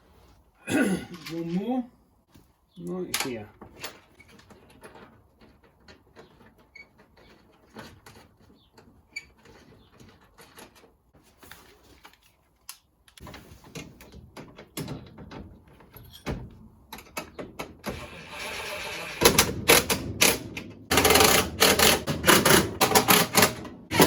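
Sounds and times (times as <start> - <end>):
nuts and bolts clicking and knocking: 2.9 - 11.2, 12.1 - 24.0.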